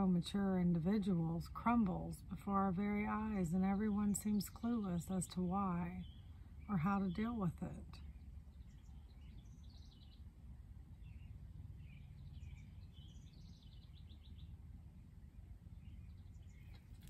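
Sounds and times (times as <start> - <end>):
faint bird chirps and trills: 0.0 - 17.0
steady low hum: 0.0 - 17.0.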